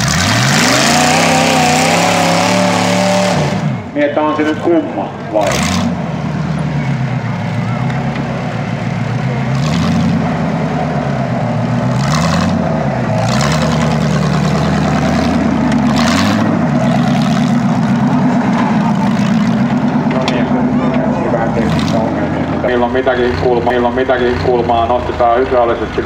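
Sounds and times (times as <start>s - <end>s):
vehicle engine at low speed: 0.0s - 26.0s.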